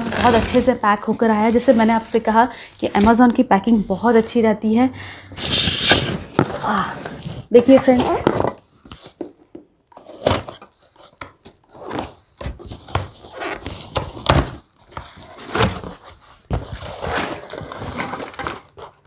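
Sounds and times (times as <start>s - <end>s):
cardboard rustling and scraping: 0.0s - 3.4s, 5.4s - 19.0s.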